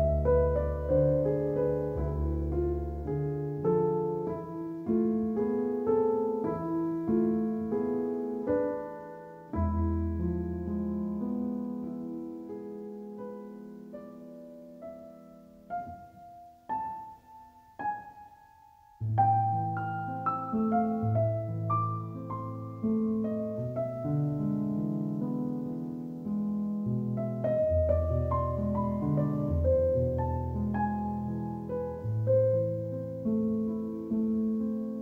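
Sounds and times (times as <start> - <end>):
calm solo piano: 0.0 - 35.0.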